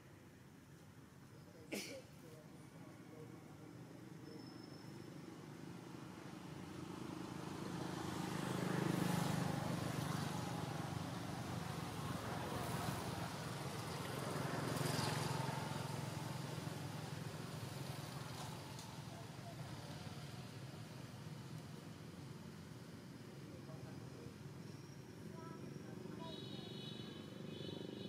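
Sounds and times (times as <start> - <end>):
vehicle engines passing by: 1.8 - 28.0.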